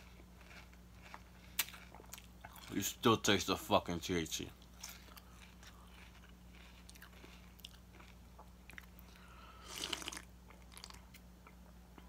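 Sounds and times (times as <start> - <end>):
chewing and crunching cereal: 0.0 - 12.0.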